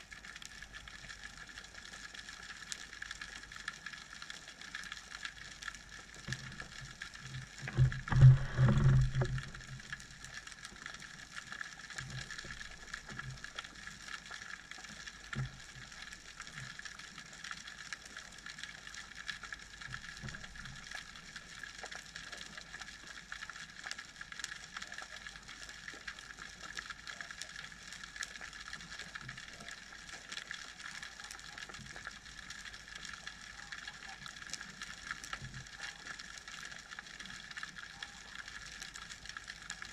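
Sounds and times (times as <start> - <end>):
underwater crackling clicks: 0.0 - 39.9.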